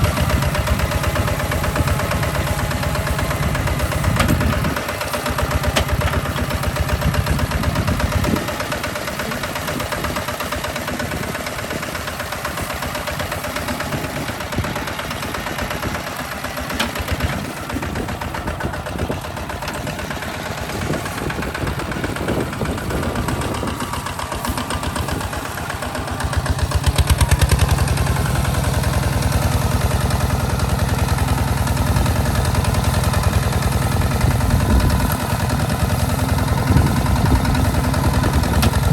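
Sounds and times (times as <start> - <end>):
tractor diesel engine knocking: 0.0 - 38.9.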